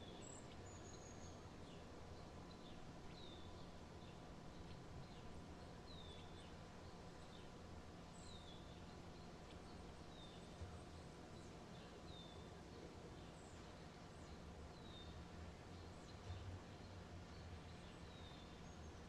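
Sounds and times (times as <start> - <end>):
quiet steady hum: 0.0 - 19.0.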